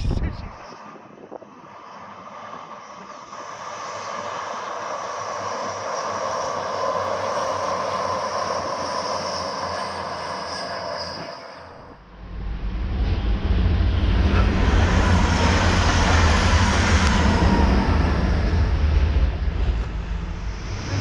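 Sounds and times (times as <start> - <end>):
train passing: 2.0 - 21.0.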